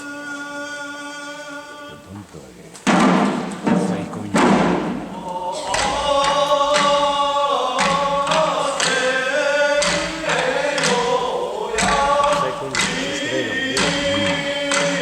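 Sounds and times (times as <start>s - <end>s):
group of voices singing: 0.0s - 15.0s
sharp drum strikes: 2.8s - 15.0s.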